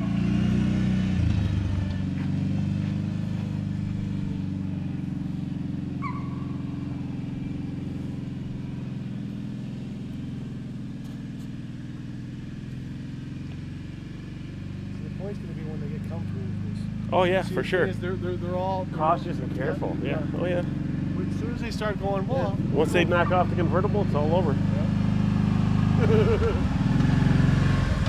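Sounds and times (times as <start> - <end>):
quad engine running at low revs: 0.0 - 28.0.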